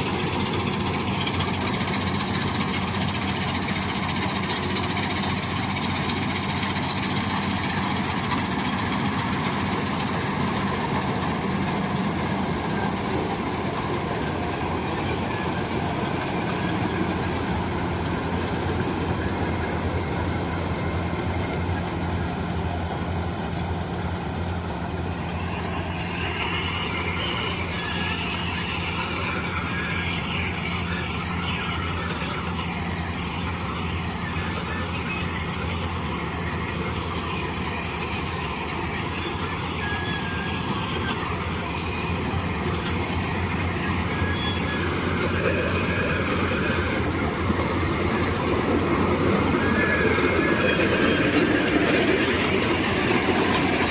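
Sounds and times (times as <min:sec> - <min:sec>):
combine harvester running: 0:00.0 - 0:53.9
high-pitched machine noise: 0:00.0 - 0:53.9.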